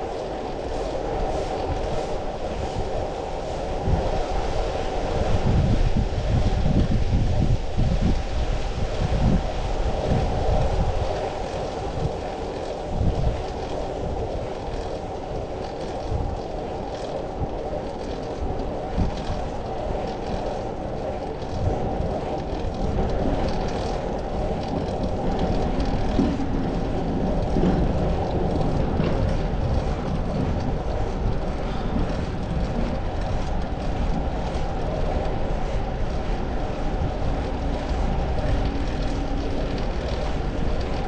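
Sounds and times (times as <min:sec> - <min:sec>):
road and wind noise: 0:00.0 - 0:41.0.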